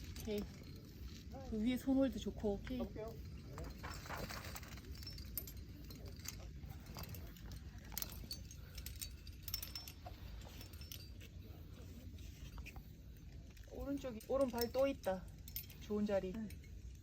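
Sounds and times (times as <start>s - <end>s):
metal climbing gear clinking: 0.0s - 17.0s.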